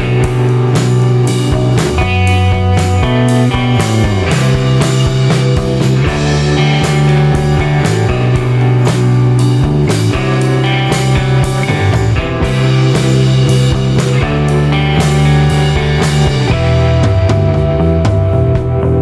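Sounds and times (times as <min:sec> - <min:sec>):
drum kit beat: 0:00.0 - 0:19.0
electric guitar: 0:00.0 - 0:19.0.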